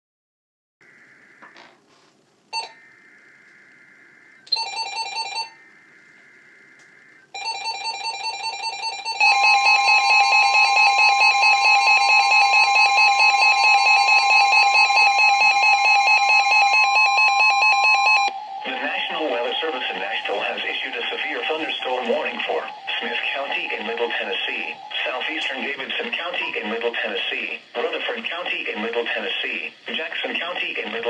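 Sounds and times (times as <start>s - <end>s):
buzzing data bursts: 0.8s - 31.0s.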